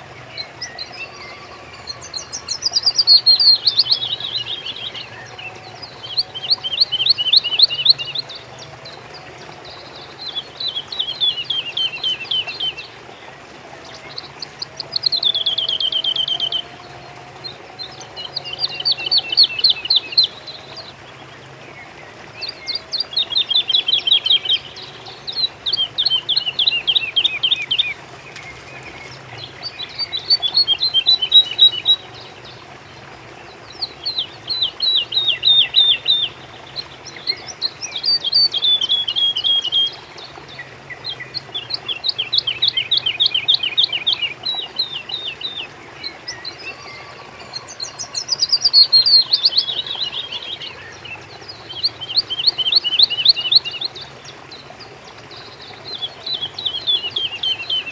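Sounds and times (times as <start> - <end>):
songbird singing trilled phrases: 0.0 - 32.6, 33.4 - 57.9.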